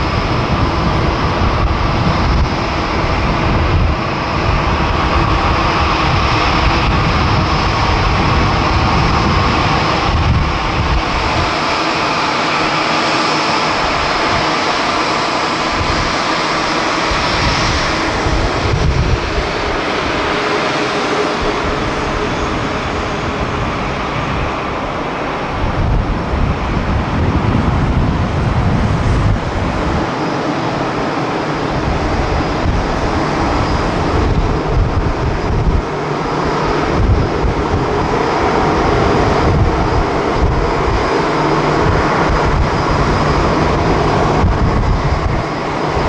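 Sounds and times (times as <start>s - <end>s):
jet engines rushing: 0.0s - 46.0s
wind buffeting microphone: 0.0s - 46.0s.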